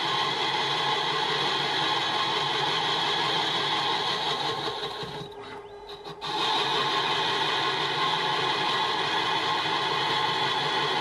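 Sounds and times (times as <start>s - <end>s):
lathe cutting metal bar: 0.0s - 11.0s.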